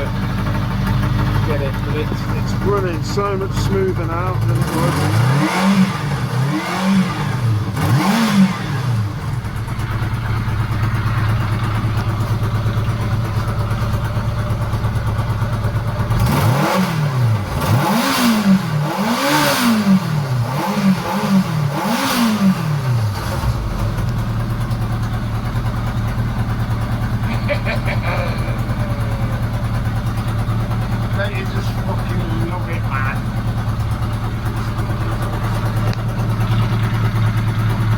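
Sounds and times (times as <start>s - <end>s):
motorcycle engine idling and blipped: 0.0s - 37.9s.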